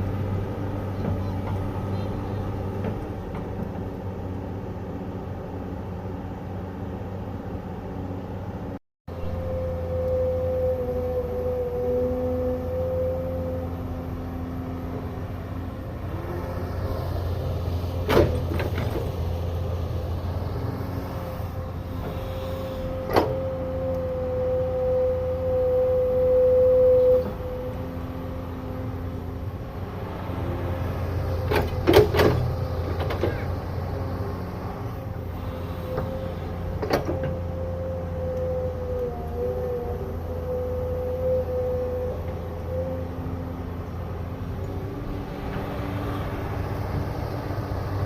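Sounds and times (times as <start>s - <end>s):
excavator diesel engine rumbling: 0.0s - 48.0s.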